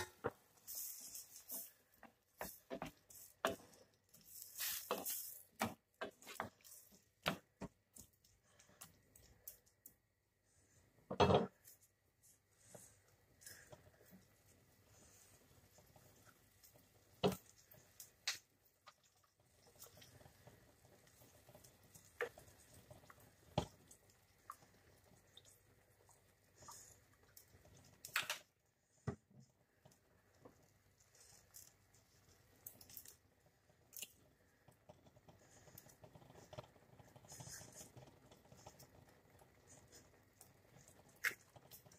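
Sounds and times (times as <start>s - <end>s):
vegetables cooking in liquid: 0.0s - 41.9s.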